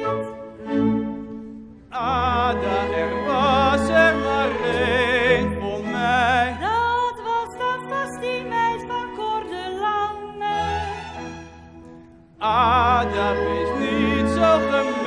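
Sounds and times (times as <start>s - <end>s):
operatic singing with vibrato: 0.0s - 11.8s, 12.4s - 15.0s
orchestra playing: 0.0s - 15.0s.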